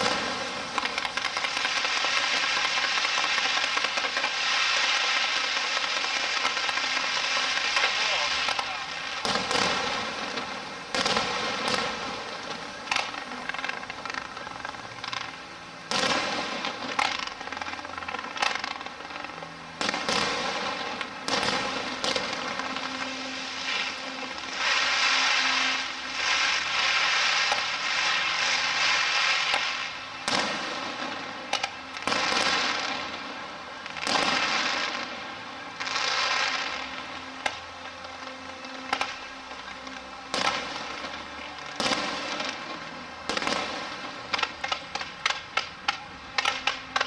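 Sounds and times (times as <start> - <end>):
faint music: 0.0 - 47.0
fireworks crackling: 0.0 - 47.0.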